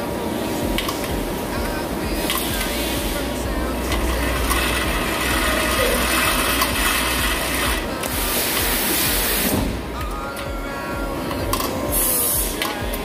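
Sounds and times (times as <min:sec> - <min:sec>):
machine clattering with faint whine: 0:00.0 - 0:13.0.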